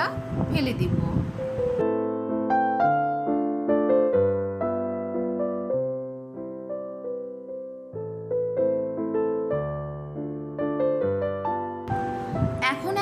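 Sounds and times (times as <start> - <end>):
gentle piano tune: 0.0 - 13.0.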